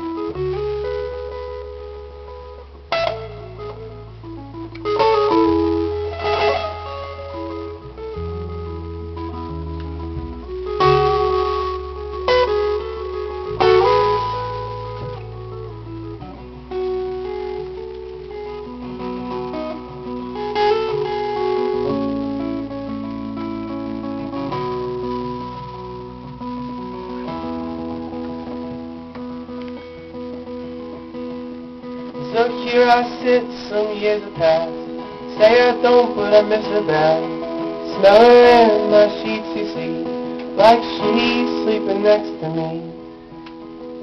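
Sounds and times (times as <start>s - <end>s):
strummed guitar: 0.0s - 44.0s
sustained bass line: 0.0s - 44.0s.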